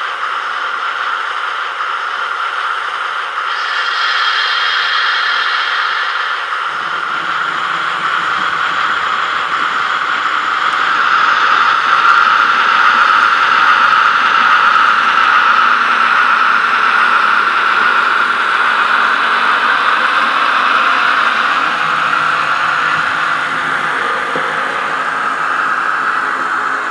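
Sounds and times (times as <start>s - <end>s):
diesel engine sound from small speaker: 0.0s - 26.9s.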